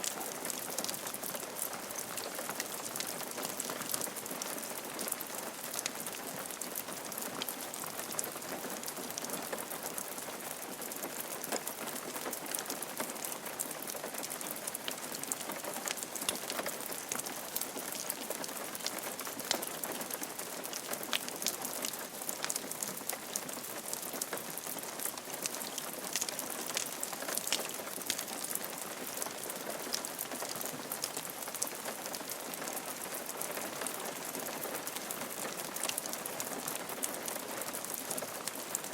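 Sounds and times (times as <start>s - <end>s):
rain pattering on a roof: 0.0s - 38.9s.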